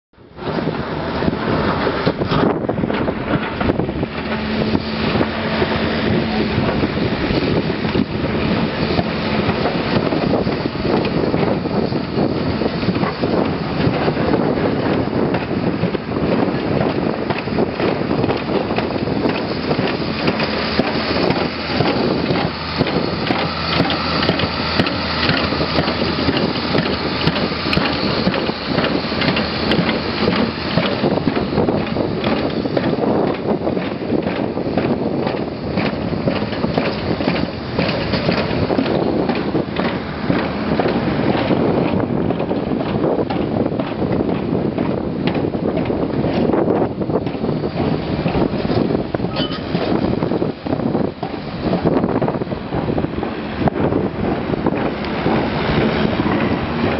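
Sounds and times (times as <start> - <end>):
heavy diesel machinery running: 0.2 - 56.9
low engine hum: 0.2 - 56.9.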